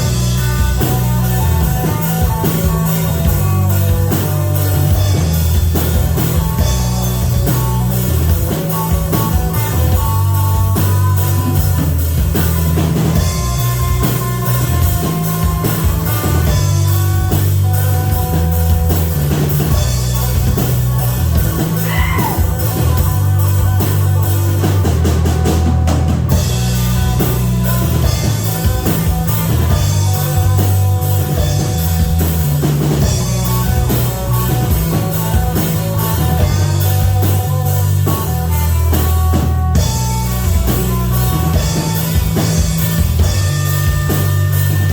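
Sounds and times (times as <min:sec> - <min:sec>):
drums: 0:00.0 - 0:44.9
guitar: 0:00.0 - 0:44.9
heavy bass line: 0:00.0 - 0:44.9.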